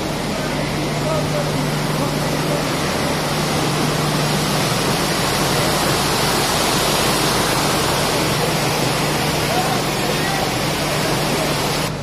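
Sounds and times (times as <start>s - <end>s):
rush of falling water: 0.0s - 12.0s.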